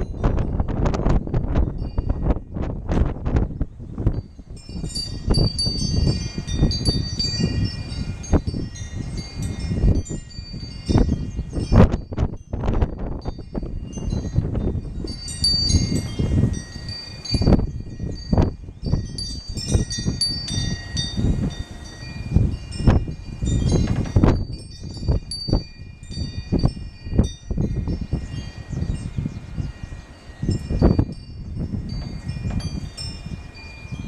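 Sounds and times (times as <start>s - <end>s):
wind chimes ringing: 0.0s - 2.7s, 4.0s - 34.0s
wind rumbling on microphone: 0.0s - 34.0s.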